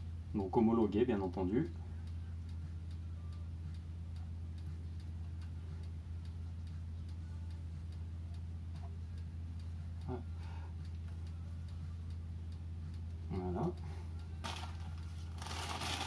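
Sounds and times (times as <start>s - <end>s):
low hum: 0.0s - 16.0s
regular ticking: 0.0s - 16.0s.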